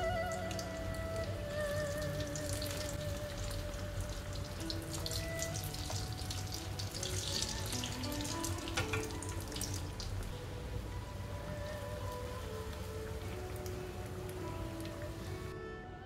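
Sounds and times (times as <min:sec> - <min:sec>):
food deep-frying in hot oil: 0:00.0 - 0:15.6
instrumental background music: 0:00.0 - 0:16.0.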